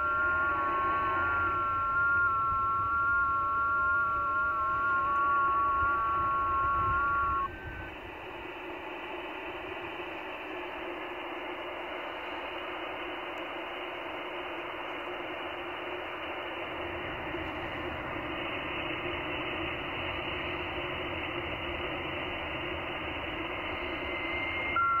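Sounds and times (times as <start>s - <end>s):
radio receiver hiss: 0.0s - 25.0s.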